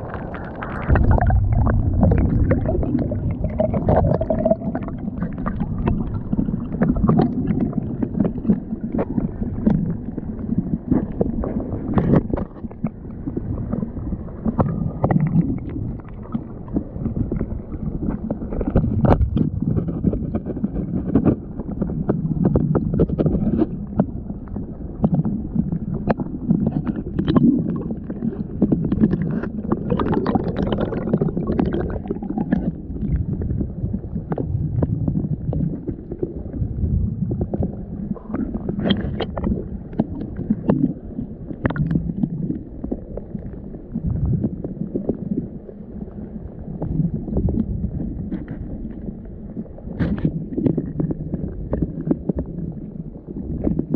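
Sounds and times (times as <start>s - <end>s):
muffled underwater water rumble: 0.0s - 53.9s.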